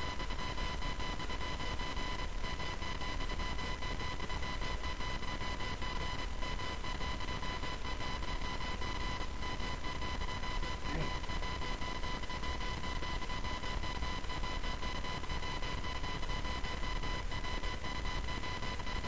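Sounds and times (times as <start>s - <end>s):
high-pitched electrical whine: 0.0s - 19.0s.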